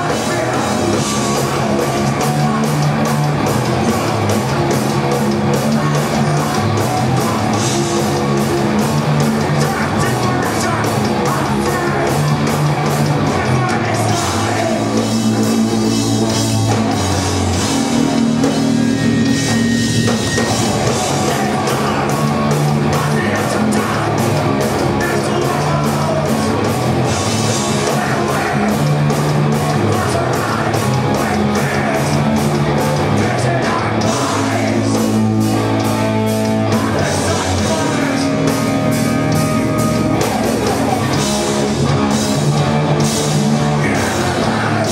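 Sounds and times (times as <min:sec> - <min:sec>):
bass guitar: 0:00.0 - 0:44.9
distorted electric guitars: 0:00.0 - 0:44.9
drum kit fast beat: 0:00.0 - 0:44.9.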